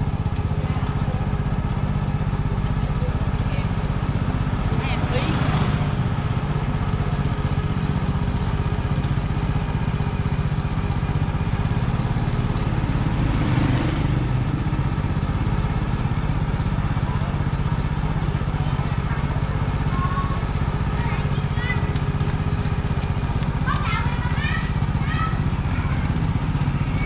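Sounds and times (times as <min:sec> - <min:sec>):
motorbike engine running: 0:00.0 - 0:27.0.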